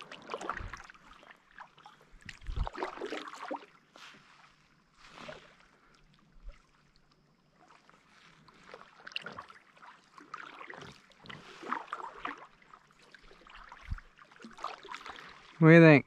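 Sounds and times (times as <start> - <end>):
paddle splashing in water: 0.0 - 15.6.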